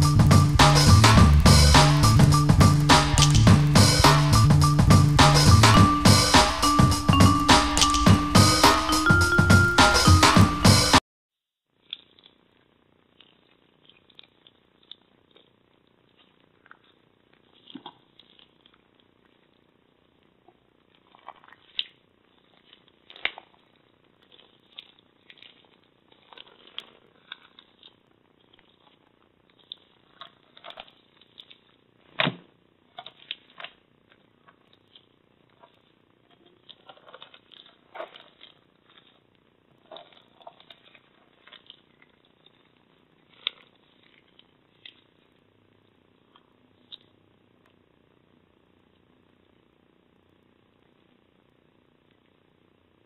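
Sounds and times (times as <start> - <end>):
slime squelching and crackling: 0.0 - 6.0, 11.7 - 49.7.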